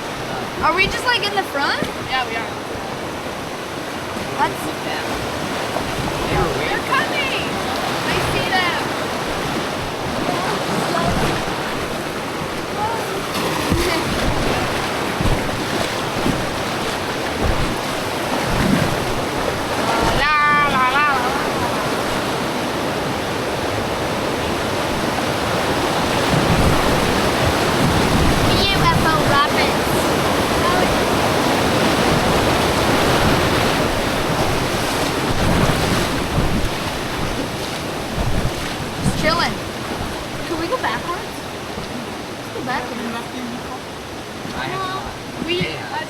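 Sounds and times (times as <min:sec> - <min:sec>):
wind rumbling on microphone: 0:00.0 - 0:42.6
river water rushing: 0:00.0 - 0:46.0.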